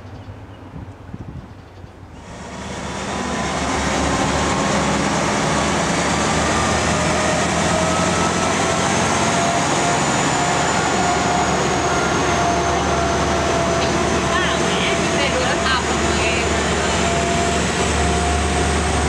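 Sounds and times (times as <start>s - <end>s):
diesel train rumbling: 0.0s - 19.0s.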